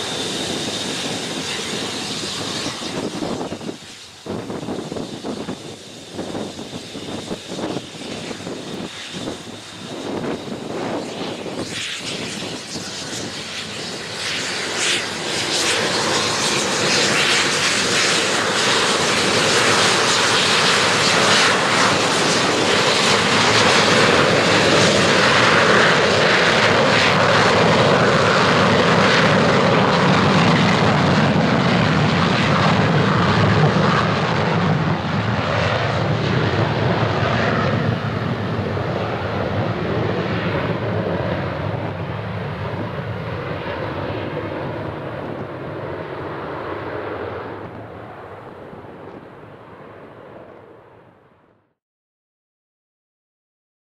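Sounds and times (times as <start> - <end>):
jet engines on takeoff roll: 0.0 - 51.8.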